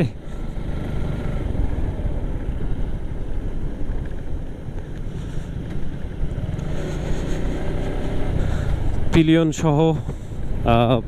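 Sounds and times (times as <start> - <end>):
motorcycle engine running: 0.0 - 11.0
wind rumbling over microphone: 0.2 - 9.3.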